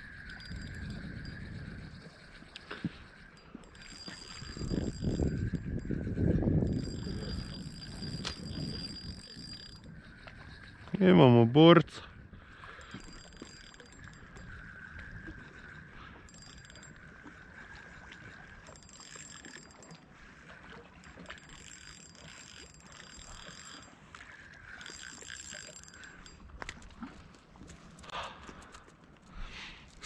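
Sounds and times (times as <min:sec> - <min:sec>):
spinning reel whirring: 0:00.0 - 0:10.9, 0:12.5 - 0:26.8.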